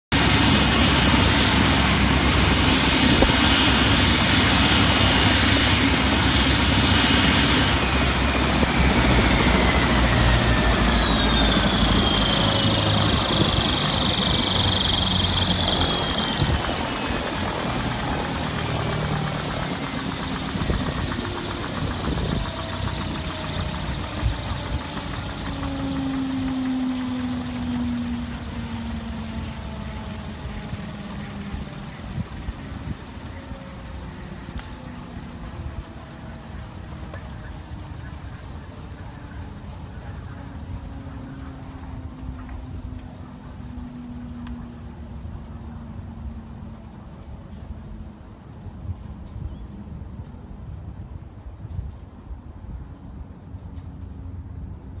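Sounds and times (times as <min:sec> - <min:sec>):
helicopter turbine engine whining: 0:00.0 - 0:55.0.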